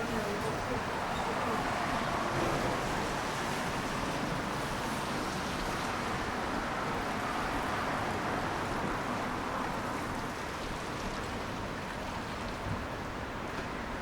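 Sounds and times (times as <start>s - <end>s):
tyres swishing on wet road: 0.0s - 14.0s.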